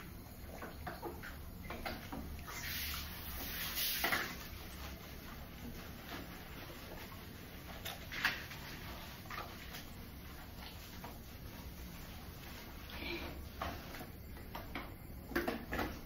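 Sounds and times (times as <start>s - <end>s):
wet rubbing and squelching: 0.5s - 14.6s.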